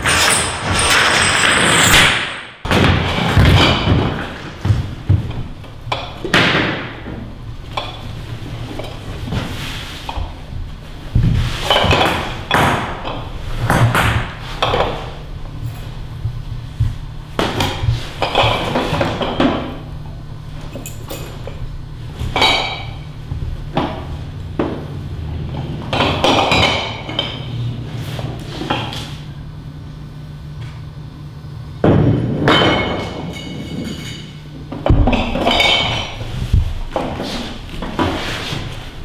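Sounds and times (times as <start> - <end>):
low steady hum: 0.1 - 39.0.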